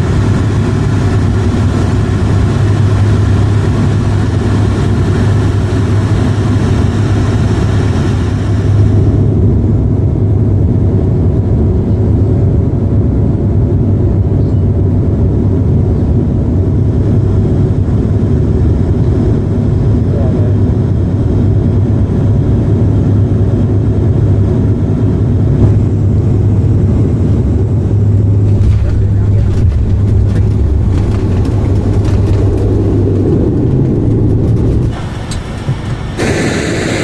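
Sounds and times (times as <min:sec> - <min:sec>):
vehicle interior drone: 0:00.0 - 0:37.0.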